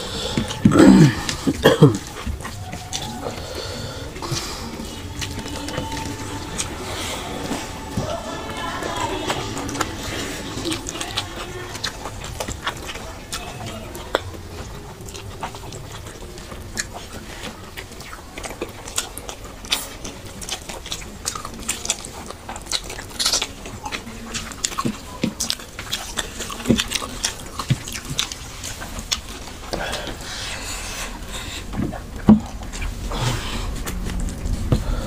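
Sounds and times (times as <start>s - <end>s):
chewing and mouth smacks: 0.0s - 35.0s.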